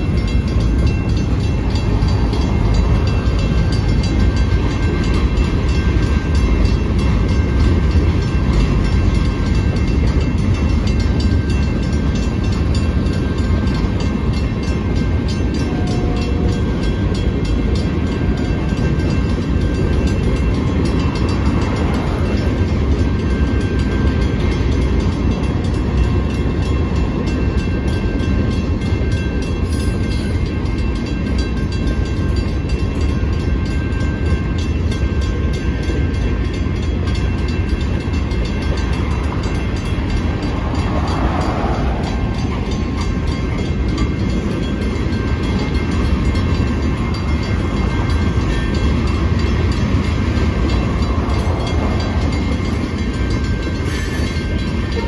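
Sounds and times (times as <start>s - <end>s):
crossing warning bell ringing: 0.0s - 55.0s
train wheels clattering on rails: 0.0s - 55.0s.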